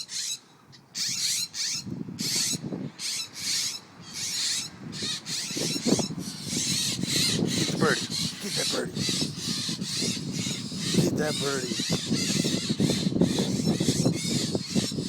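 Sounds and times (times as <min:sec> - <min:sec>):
birds giving harsh alarm calls: 0:00.0 - 0:15.0.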